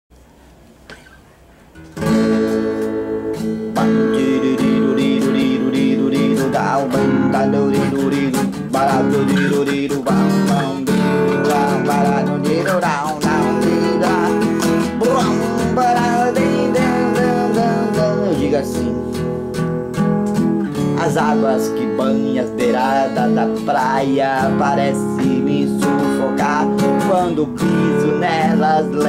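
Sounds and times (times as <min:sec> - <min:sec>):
classical guitar strumming chords: 0:00.9 - 0:29.0.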